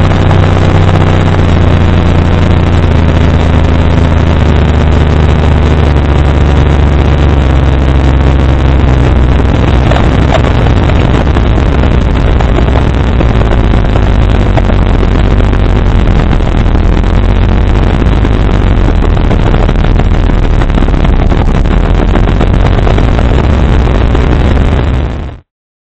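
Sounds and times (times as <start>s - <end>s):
subwoofers playing bass sine sweep: 0.0s - 25.4s
speaker buzz and rattle: 0.0s - 25.5s.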